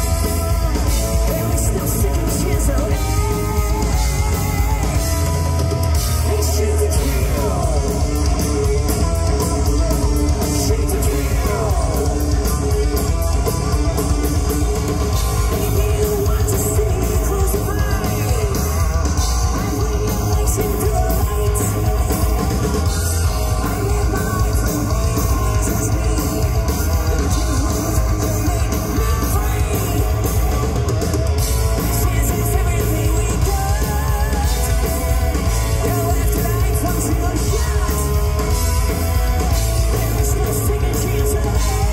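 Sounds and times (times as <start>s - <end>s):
heavy metal band playing live: 0.0s - 41.9s
sung lead vocal: 0.0s - 41.9s.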